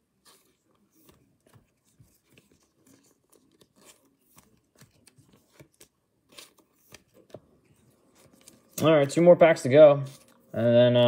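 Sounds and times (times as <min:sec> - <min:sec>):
cards rustling and clicking: 0:00.0 - 0:10.7.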